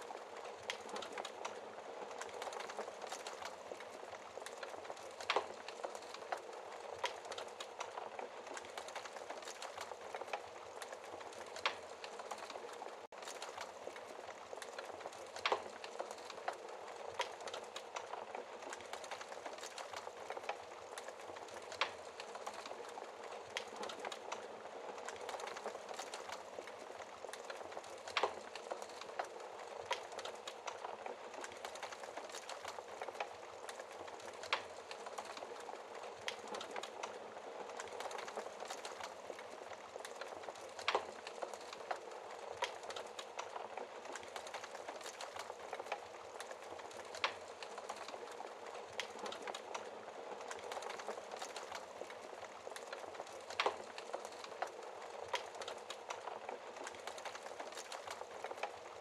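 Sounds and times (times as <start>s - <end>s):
burning logs popping: 0.0s - 59.0s
wood fire crackling: 0.0s - 59.0s.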